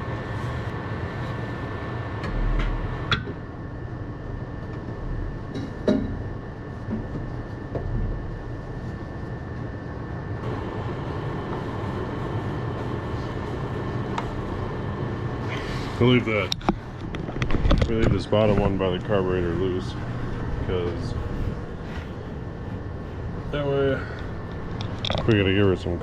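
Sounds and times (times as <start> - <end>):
background hum: 0.0 - 26.0.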